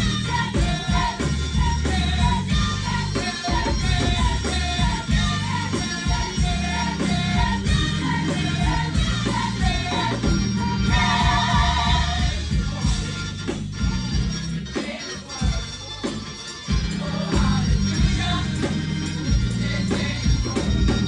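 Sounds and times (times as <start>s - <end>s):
singers in repeated phrases: 0.0s - 13.6s, 14.3s - 21.0s
gospel band playing: 0.0s - 21.0s.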